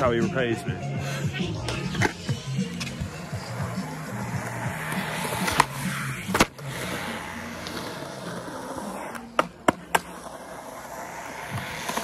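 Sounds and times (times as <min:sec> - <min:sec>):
skateboard wheels rolling on concrete: 0:00.0 - 0:12.0
skateboard clacking on ground: 0:01.5 - 0:12.0.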